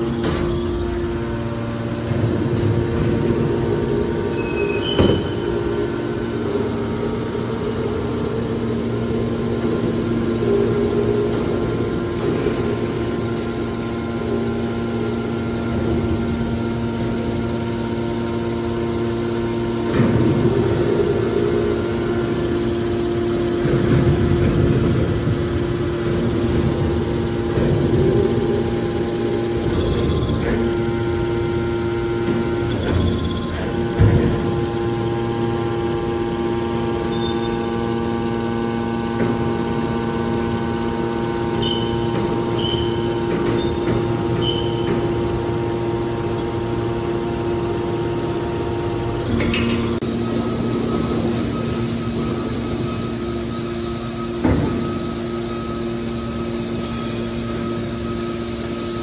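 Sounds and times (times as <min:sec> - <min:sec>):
hydraulic machine humming: 0:00.0 - 0:59.0.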